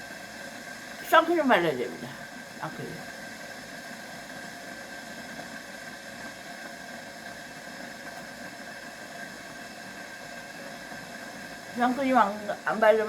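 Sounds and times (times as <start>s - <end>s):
background hiss: 0.0s - 13.0s
faint high whine: 0.0s - 13.0s.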